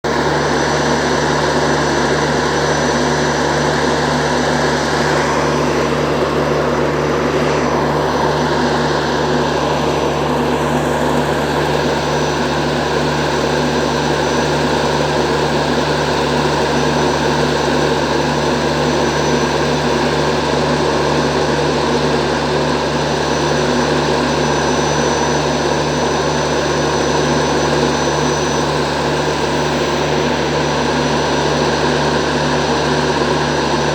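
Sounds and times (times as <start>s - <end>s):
locomotive machinery humming: 0.0s - 33.9s.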